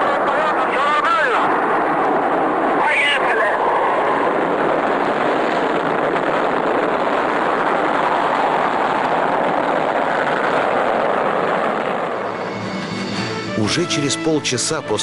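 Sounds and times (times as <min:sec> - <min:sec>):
rocket exhaust roar: 0:00.0 - 0:14.6.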